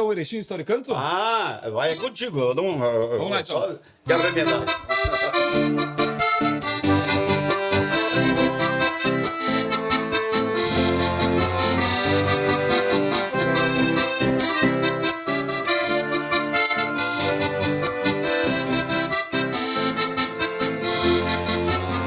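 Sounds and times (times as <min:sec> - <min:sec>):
accordion playing folk music: 0:04.1 - 0:22.0.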